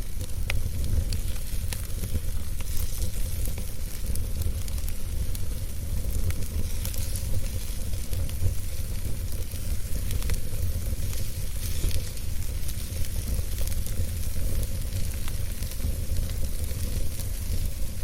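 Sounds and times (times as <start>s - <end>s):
burning wood crackling: 0.0s - 18.0s
campfire hissing: 0.0s - 18.0s.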